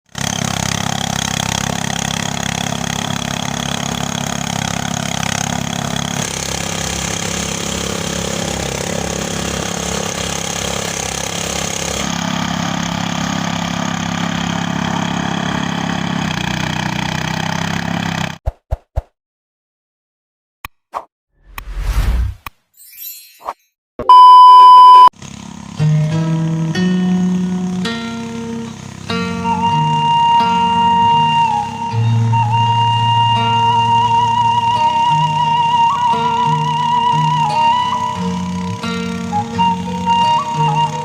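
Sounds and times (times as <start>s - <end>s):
threshing machine engine running: 0.1s - 18.4s, 25.2s - 41.0s.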